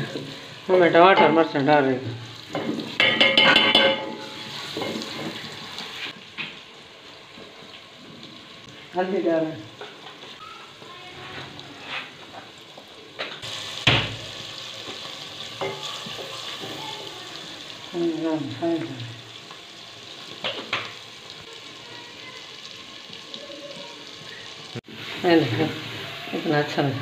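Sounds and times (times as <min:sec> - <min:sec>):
masala sizzling in a pot: 0:00.0 - 0:27.0.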